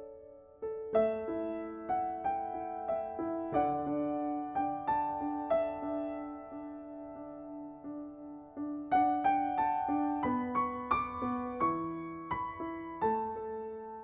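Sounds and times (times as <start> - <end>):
soft piano playing: 0.0 - 14.0.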